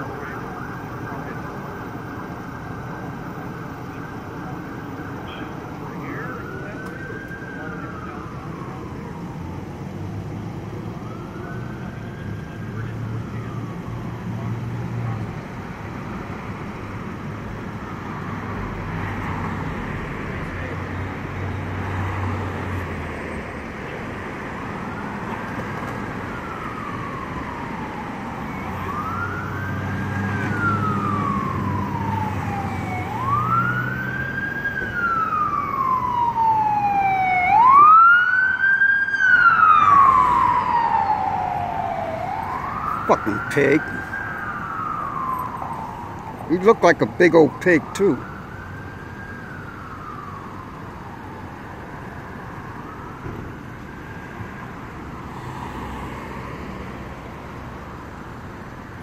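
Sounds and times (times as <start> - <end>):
emergency siren wailing: 0.0 - 59.0
low rumble of vehicle engines: 0.0 - 59.0.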